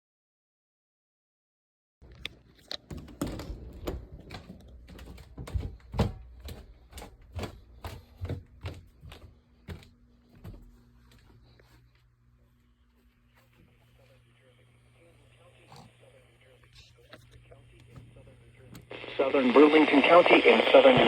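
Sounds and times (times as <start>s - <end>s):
faint low hum: 2.0s - 21.0s.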